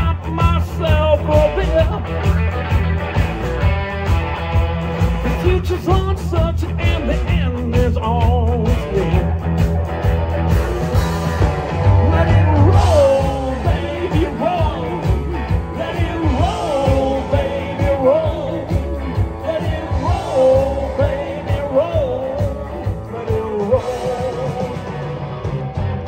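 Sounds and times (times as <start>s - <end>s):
bass: 0.0s - 26.0s
drums: 0.0s - 26.0s
electric guitar lead: 0.0s - 26.0s.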